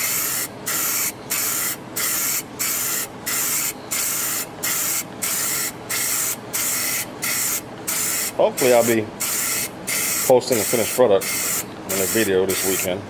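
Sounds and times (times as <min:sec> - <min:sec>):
spray paint can hissing: 0:00.0 - 0:12.9.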